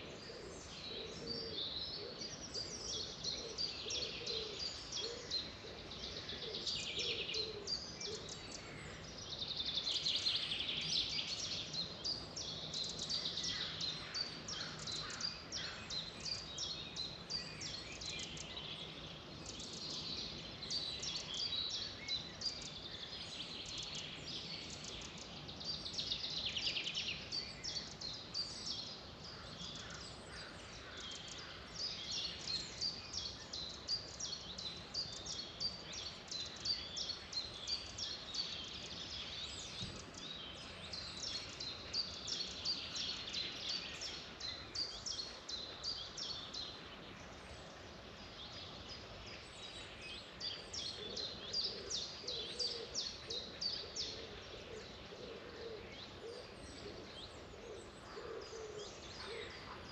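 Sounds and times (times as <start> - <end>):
outdoor background hiss: 0.0 - 59.9
songbirds chirping: 0.0 - 59.9.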